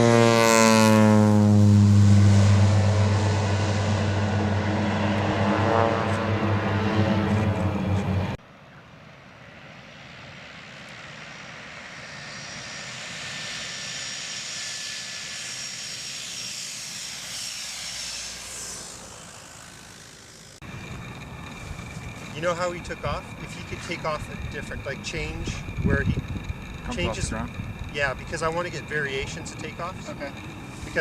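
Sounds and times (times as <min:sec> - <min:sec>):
turboprop engine running: 0:00.0 - 0:08.4, 0:11.2 - 0:31.0
plane passing by with whine: 0:00.0 - 0:31.0.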